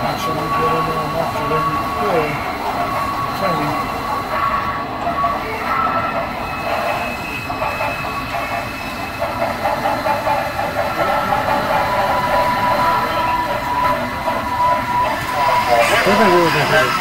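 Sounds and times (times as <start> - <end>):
held whine: 0.0 - 17.0.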